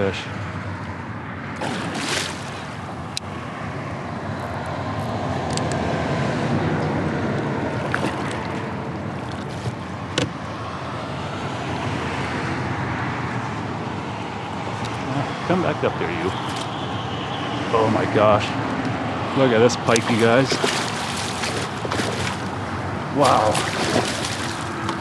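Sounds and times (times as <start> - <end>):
highway traffic rushing: 0.0 - 25.0.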